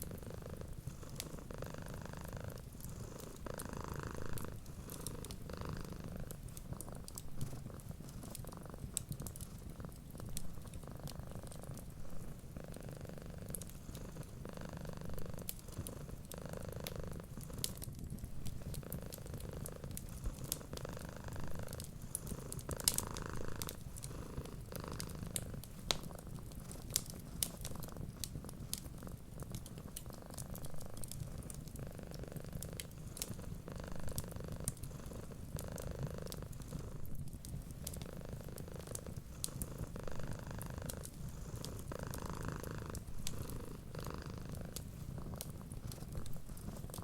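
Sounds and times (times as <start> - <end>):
cat purring: 0.0 - 47.0
wood fire crackling: 0.0 - 47.0.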